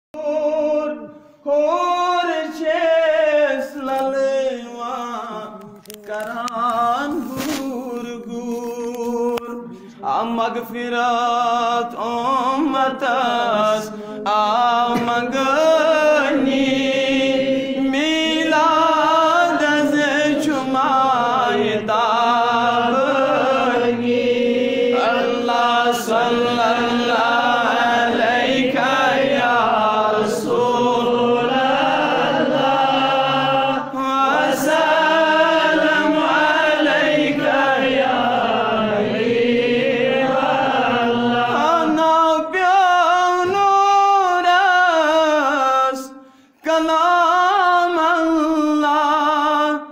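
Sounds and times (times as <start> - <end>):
man singing unaccompanied: 0.2 - 49.9.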